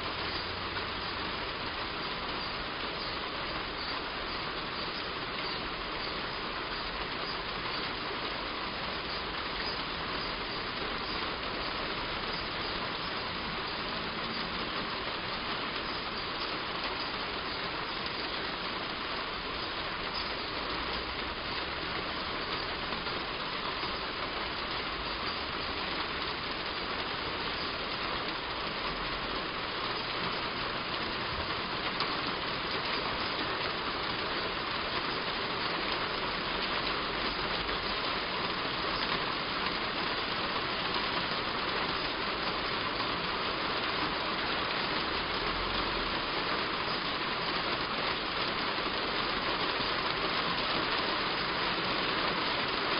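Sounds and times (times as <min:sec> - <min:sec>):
heavy rain on a roof: 0:00.0 - 0:52.9.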